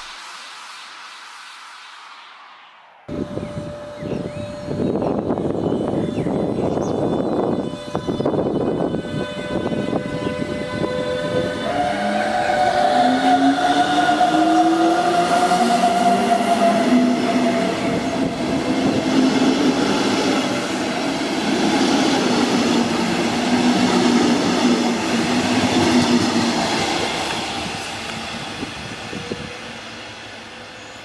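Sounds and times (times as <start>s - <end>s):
train wheels rumbling: 3.2s - 31.0s.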